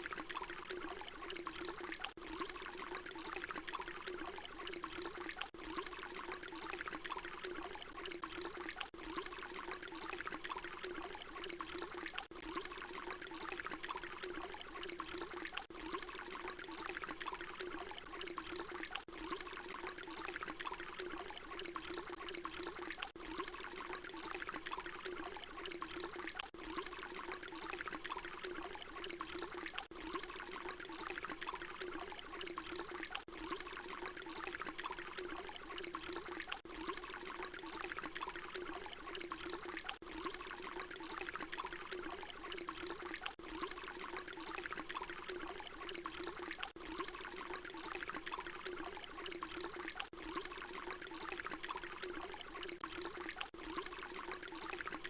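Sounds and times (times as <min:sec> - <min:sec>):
water pouring: 0:00.0 - 0:55.0.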